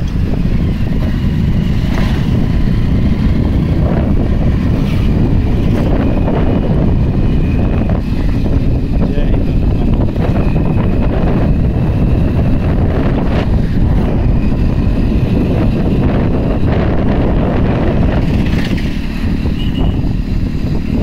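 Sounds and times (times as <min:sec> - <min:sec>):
vehicle engine and road noise: 0:00.0 - 0:21.0
wind rushing over microphone: 0:00.0 - 0:21.0.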